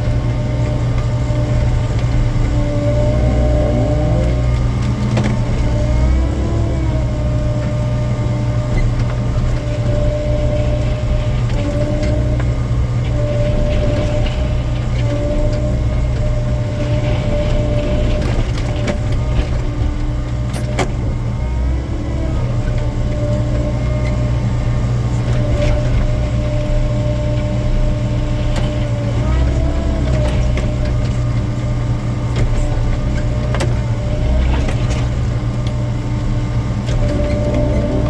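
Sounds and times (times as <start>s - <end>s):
diesel engine running: 0.0s - 38.0s
hydraulic whine: 0.0s - 38.0s.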